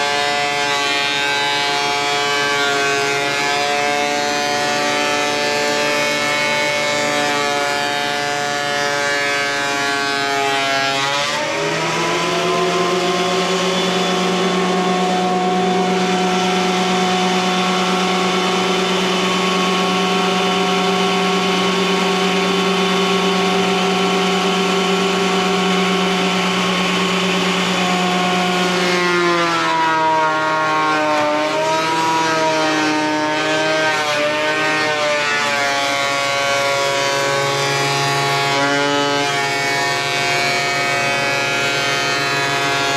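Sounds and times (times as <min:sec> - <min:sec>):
thickness planer whining: 0:00.0 - 0:42.9.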